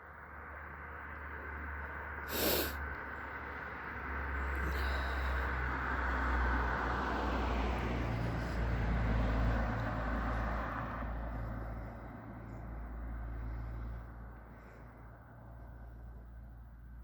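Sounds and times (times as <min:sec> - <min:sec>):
car passing by: 0:00.2 - 0:17.0.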